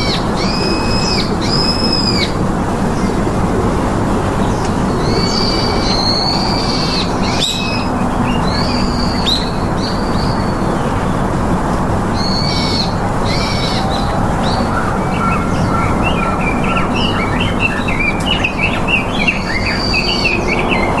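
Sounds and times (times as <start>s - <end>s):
birds chirping and whistling: 0.0s - 3.2s, 4.4s - 11.2s, 12.1s - 21.0s.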